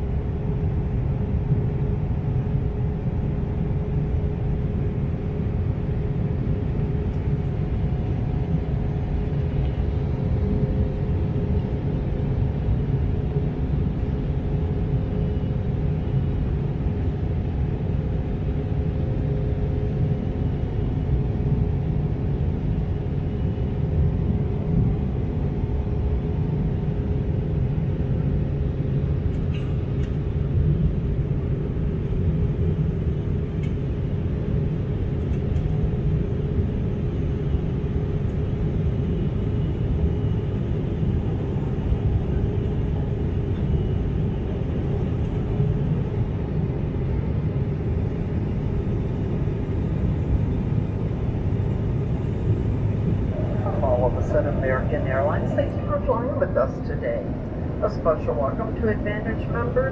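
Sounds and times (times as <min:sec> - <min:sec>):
airliner cabin engine rumble: 0:00.0 - 0:59.9
faint hum tones: 0:00.0 - 0:59.9.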